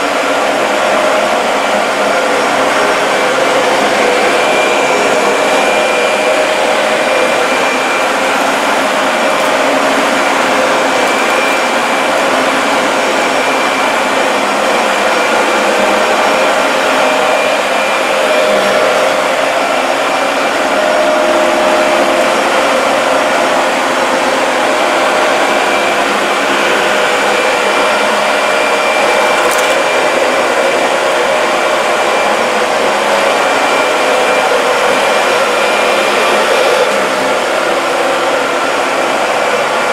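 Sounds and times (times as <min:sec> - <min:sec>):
vacuum cleaner running on rug: 0:00.0 - 0:39.9.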